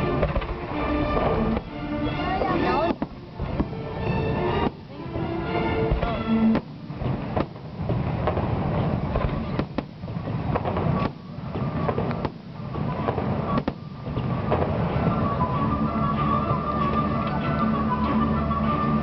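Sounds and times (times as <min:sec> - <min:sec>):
fireworks bangs and crackles: 0:00.0 - 0:19.0
music: 0:00.0 - 0:19.0.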